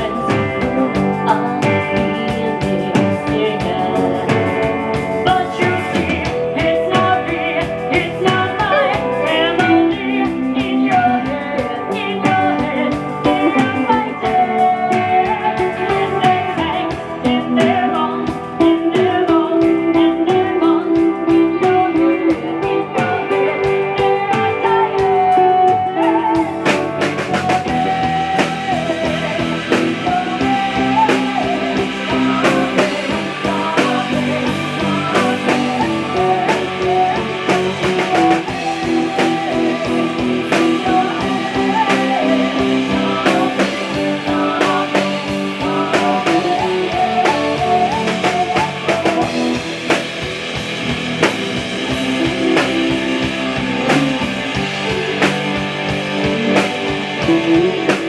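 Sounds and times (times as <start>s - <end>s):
drum kit: 0.0s - 58.0s
guitar playing bending melody: 0.0s - 58.0s.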